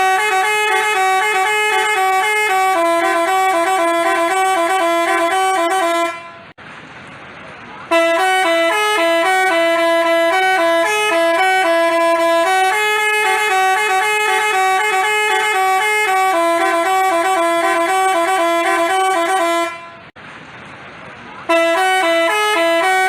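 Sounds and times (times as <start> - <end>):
bus musical horn melody: 0.0 - 6.6, 7.9 - 20.2, 21.5 - 23.0.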